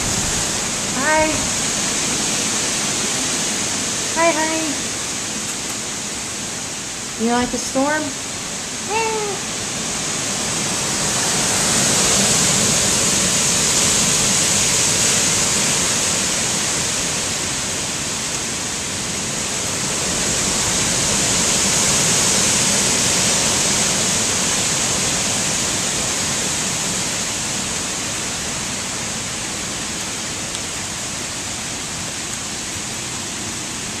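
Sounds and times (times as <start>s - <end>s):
strong wind gusting through trees: 0.0s - 34.0s.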